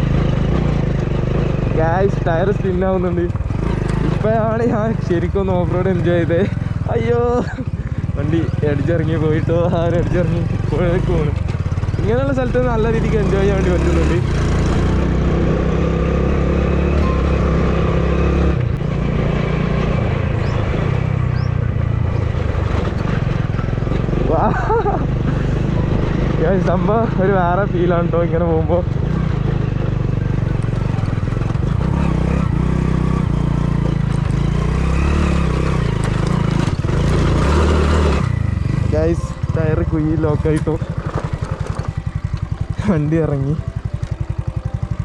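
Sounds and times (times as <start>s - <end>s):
motorcycle engine under throttle: 0.0s - 45.0s.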